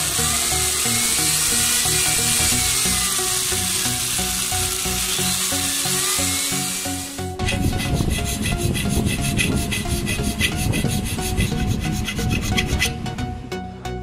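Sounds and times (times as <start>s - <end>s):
power tool grinding metal: 0.0s - 13.0s
background music: 0.0s - 14.0s.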